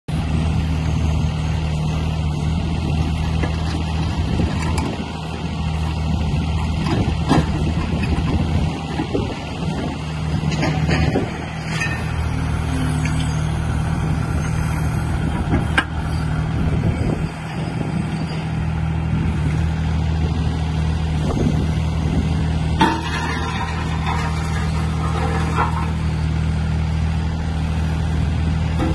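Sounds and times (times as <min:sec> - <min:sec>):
excavator engine running: 0:00.1 - 0:28.9.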